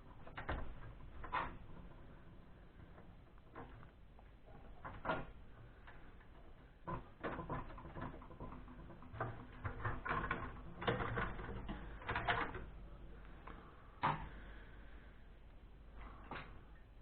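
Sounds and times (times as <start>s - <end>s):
computer parts clicking and rattling: 0.0s - 14.4s.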